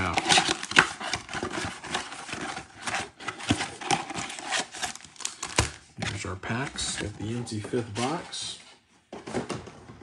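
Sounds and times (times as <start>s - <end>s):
cardboard and card packs rustling: 0.0s - 10.0s.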